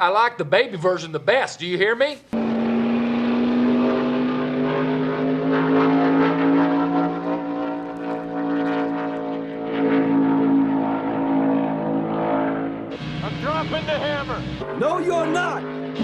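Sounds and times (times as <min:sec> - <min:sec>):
race car engines at speed: 0:02.3 - 0:16.0.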